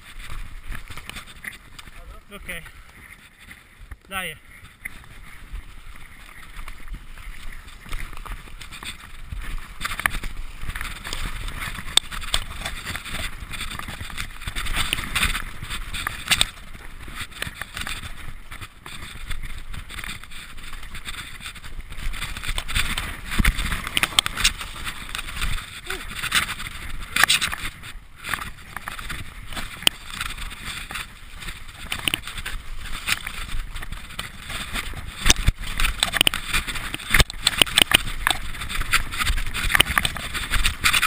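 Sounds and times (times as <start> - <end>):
tyres rolling over dirt and leaves: 0.0 - 41.0
bike clicks and knocks: 5.9 - 41.0.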